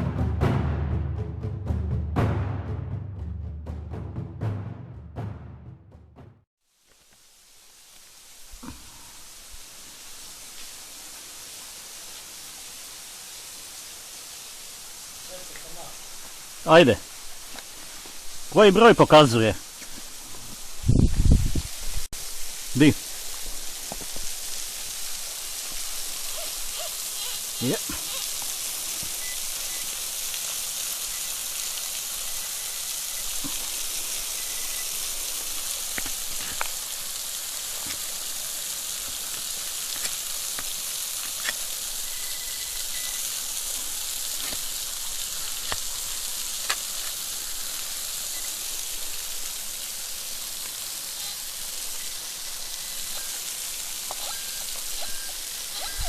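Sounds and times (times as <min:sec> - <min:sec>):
waterfall rushing: 0:07.4 - 0:21.0, 0:21.7 - 0:56.0.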